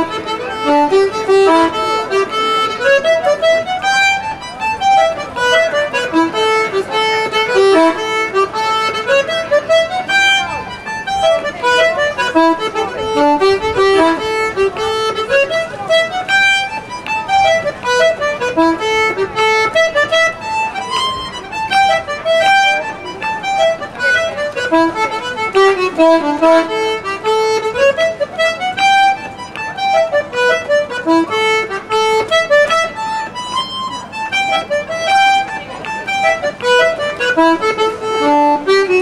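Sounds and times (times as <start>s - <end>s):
button accordion folk tune: 0.0s - 39.0s.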